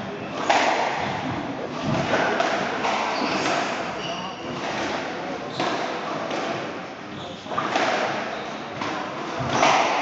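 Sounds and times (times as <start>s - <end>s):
squash ball struck by rackets: 0.4s - 6.6s, 7.5s - 10.0s.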